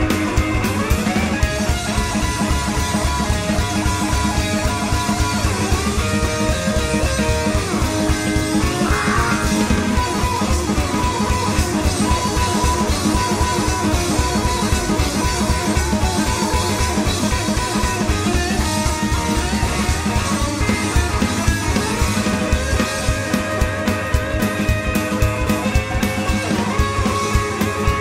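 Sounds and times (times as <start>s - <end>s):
live rockabilly band playing: 0.0s - 28.0s.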